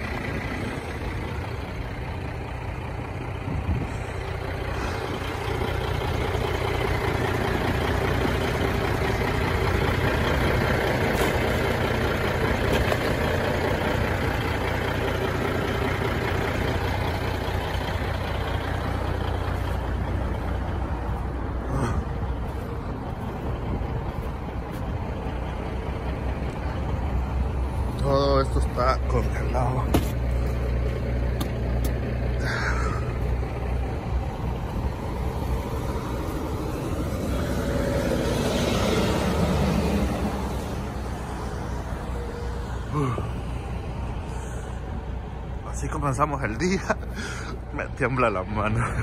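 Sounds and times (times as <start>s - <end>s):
highway traffic rushing: 0.0s - 49.0s
truck engine idling: 0.0s - 49.0s.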